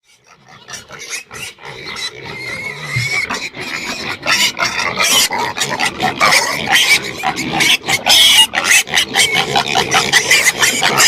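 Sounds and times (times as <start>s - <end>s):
pigs squealing: 0.1s - 11.0s.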